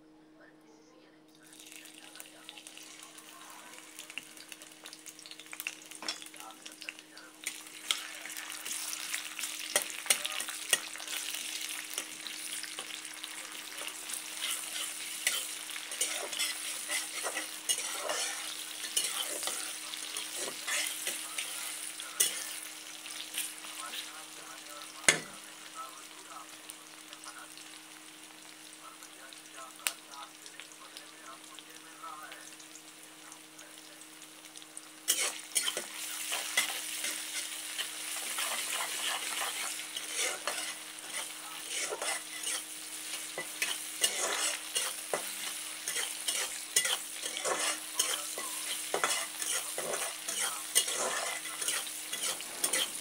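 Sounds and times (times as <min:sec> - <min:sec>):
food sizzling in a frying pan: 0:01.3 - 0:53.0.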